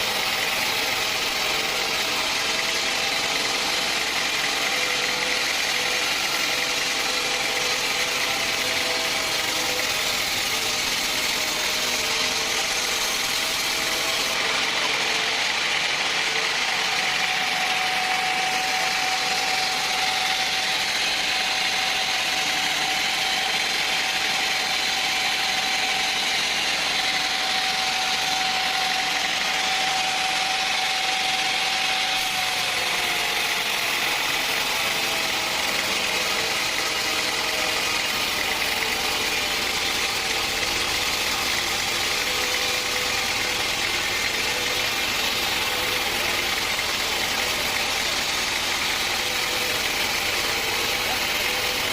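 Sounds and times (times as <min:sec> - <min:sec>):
machine whine: 0:00.0 - 0:51.9
sawmill machinery running: 0:00.0 - 0:51.9.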